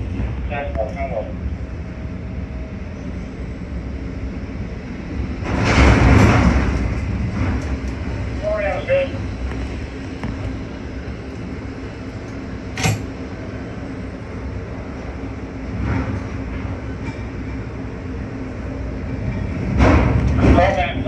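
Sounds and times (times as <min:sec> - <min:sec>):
crane machinery rumble: 0:00.0 - 0:21.0.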